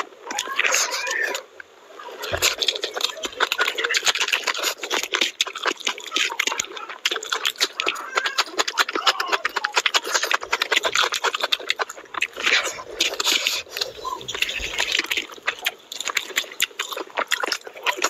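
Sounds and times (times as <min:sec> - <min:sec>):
wet chewing and lip smacking: 0:00.0 - 0:18.0
bite into raw onion: 0:02.2 - 0:18.0.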